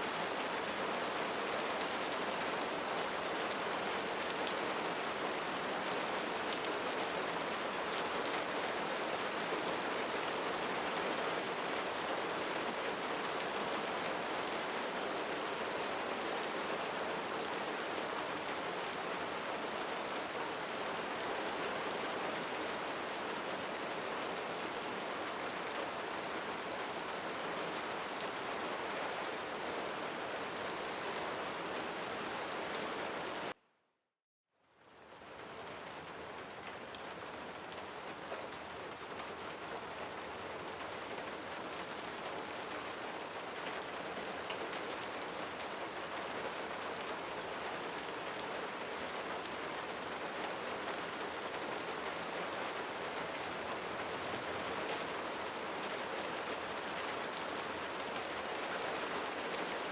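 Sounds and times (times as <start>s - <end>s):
rain falling on leaves: 0.0s - 33.6s, 34.6s - 59.9s.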